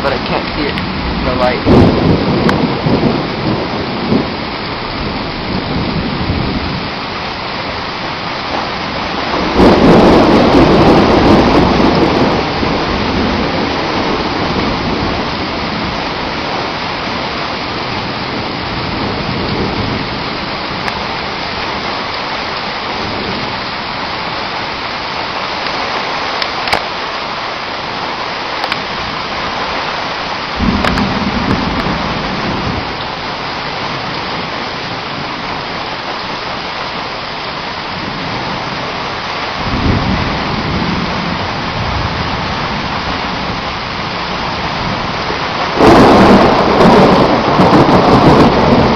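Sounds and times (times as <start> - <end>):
thunder rolling: 0.0 - 24.4, 30.4 - 36.7, 37.9 - 48.9
torrential rain pouring: 0.0 - 48.9.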